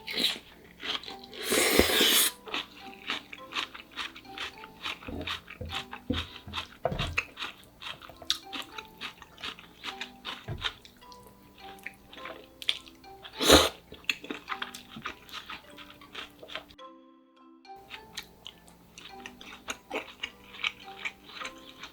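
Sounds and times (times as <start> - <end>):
crunching and chewing food: 0.0 - 16.8, 17.8 - 21.9.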